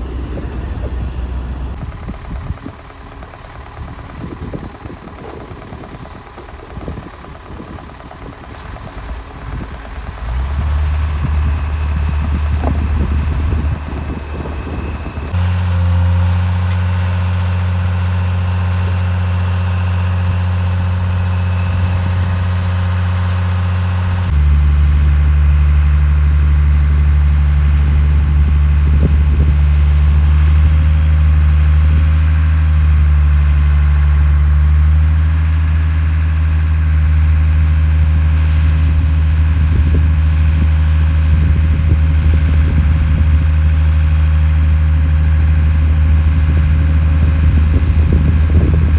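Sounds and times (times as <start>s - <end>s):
truck engine humming: 0.0s - 48.9s.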